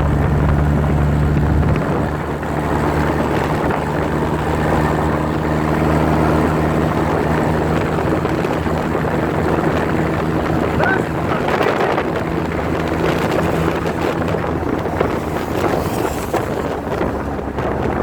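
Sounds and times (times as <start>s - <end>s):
motor tricycle engine humming: 0.0s - 18.0s
wind rushing over microphone: 0.0s - 18.0s.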